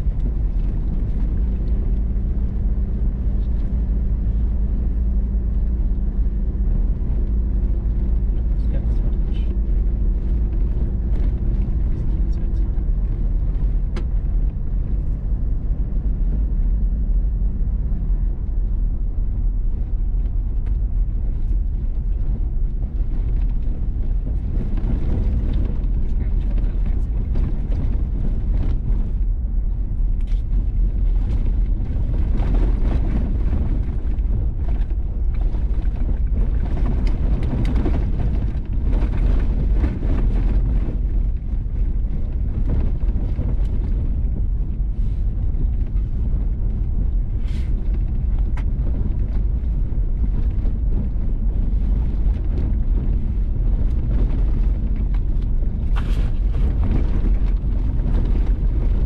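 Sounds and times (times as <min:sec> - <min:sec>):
vehicle rumbling on gravel: 0:00.0 - 0:59.0
wind noise on microphone: 0:00.0 - 0:59.0.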